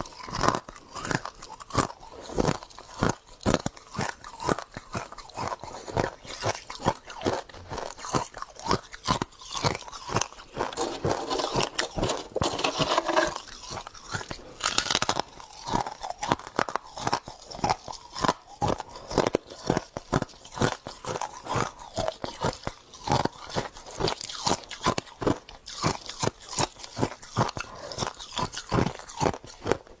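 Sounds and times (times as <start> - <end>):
crunching and chewing frost: 0.0 - 30.0.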